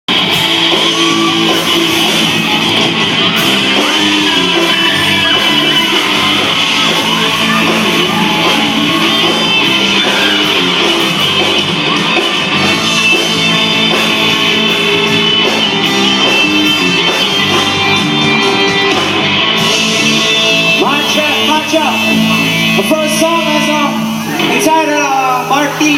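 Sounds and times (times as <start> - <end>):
electric guitars: 0.1 - 25.9
live rock band: 0.1 - 25.9.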